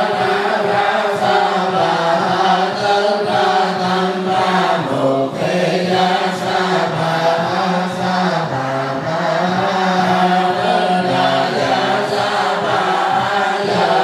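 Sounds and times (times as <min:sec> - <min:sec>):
monks chanting in unison: 0:00.0 - 0:14.0.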